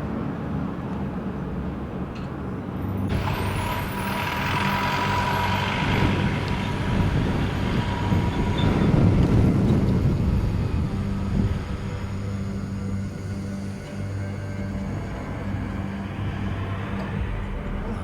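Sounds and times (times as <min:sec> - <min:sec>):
wind noise: 0:00.0 - 0:18.0
steady whine: 0:03.0 - 0:18.0
motorcycle engine running: 0:03.1 - 0:18.0.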